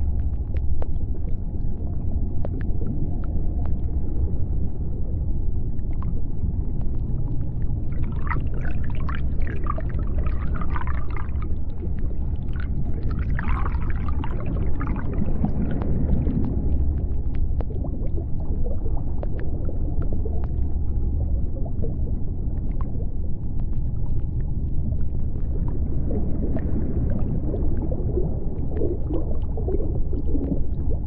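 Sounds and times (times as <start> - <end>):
low underwater rumble: 0.0 - 31.0.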